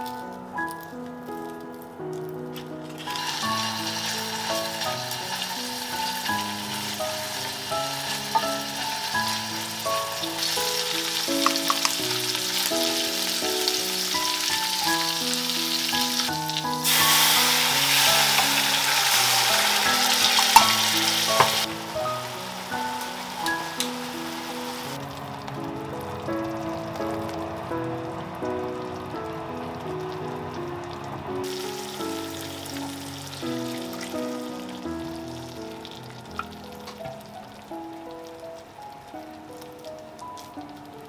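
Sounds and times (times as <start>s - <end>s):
background music held notes: 0.0s - 41.0s
food sizzling in a pan: 2.6s - 29.1s, 29.8s - 40.8s.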